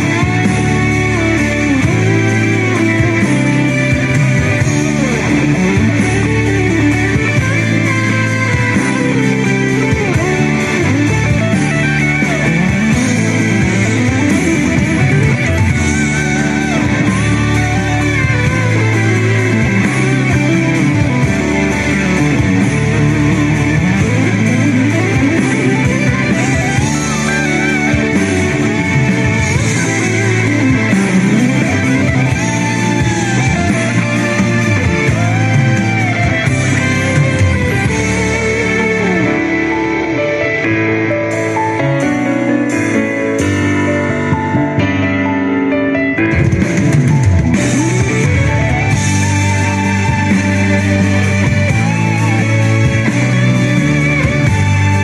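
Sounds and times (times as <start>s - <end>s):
electric guitar melody: 0.0s - 55.0s
instrumental rock music: 0.0s - 55.0s.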